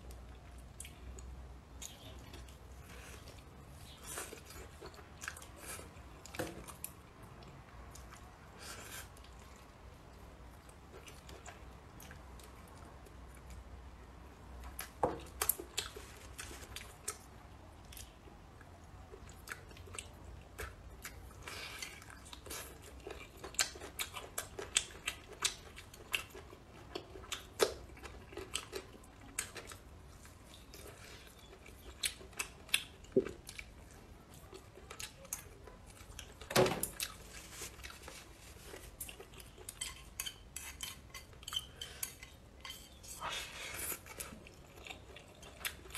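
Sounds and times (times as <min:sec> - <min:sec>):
close-up chewing: 0:00.1 - 0:13.6, 0:14.6 - 0:45.9.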